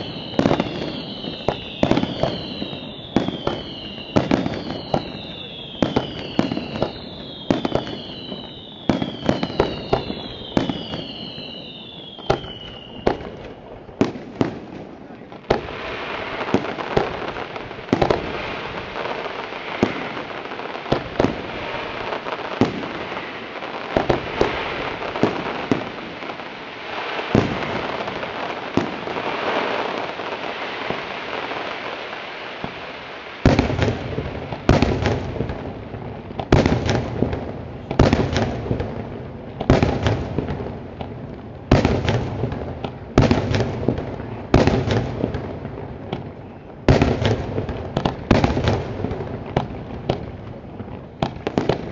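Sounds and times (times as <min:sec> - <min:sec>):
firework bangs: 0:00.0 - 0:51.9
firework crackling: 0:00.0 - 0:51.9.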